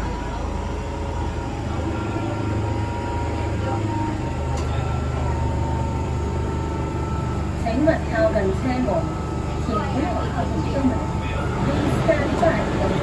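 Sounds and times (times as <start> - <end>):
faint motor whine: 0.0 - 13.0
train wheels rumbling on rails: 0.0 - 13.0.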